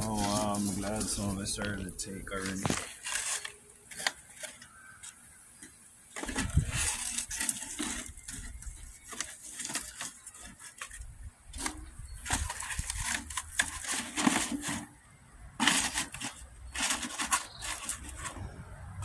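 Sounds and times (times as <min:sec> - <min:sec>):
cardboard tearing and crumpling: 0:00.0 - 0:05.2, 0:06.1 - 0:15.0, 0:15.6 - 0:18.5.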